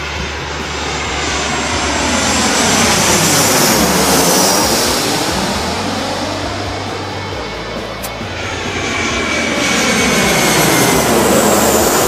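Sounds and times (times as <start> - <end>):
high engine whine: 0.0 - 12.0
jet airliner passing overhead: 0.0 - 12.0.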